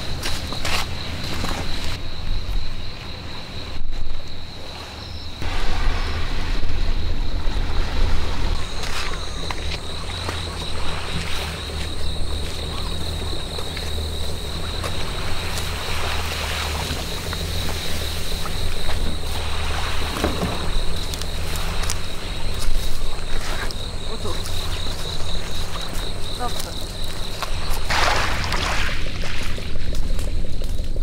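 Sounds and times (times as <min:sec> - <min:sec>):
high-pitched insect drone: 0:00.0 - 0:29.0
kayak dragged through grass: 0:04.7 - 0:31.0
wind buffeting microphone: 0:05.4 - 0:31.0.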